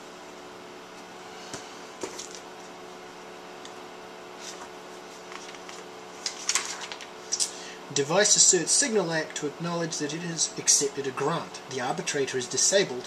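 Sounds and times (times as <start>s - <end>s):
computer equipment humming: 0.0s - 13.0s.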